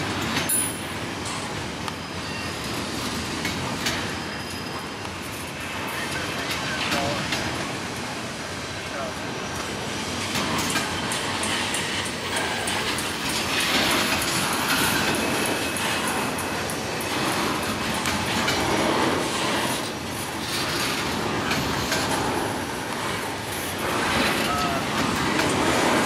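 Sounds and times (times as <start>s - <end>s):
train wheels clicking on rails: 0.0s - 26.0s.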